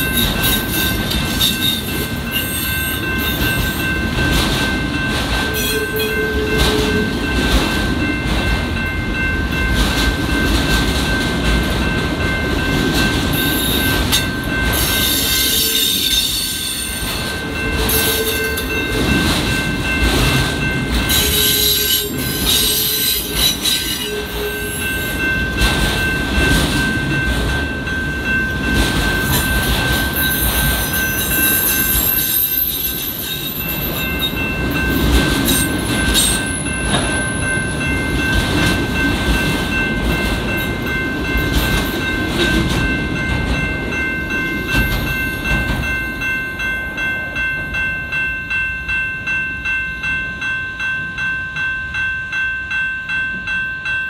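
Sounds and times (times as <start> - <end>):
crossing bell ringing: 0.0 - 54.0
freight train wheels rumbling: 0.0 - 54.0.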